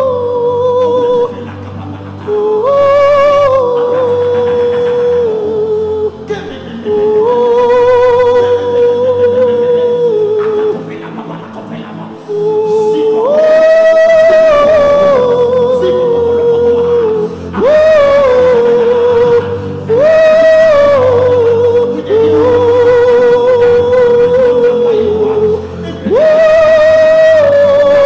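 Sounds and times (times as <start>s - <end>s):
person singing with vibrato: 0.0s - 28.0s.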